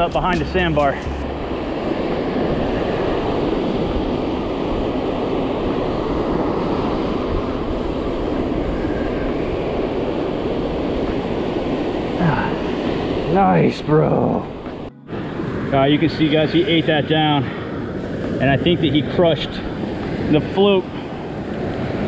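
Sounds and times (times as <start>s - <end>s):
breaking surf: 0.0s - 22.0s
wind: 0.0s - 22.0s.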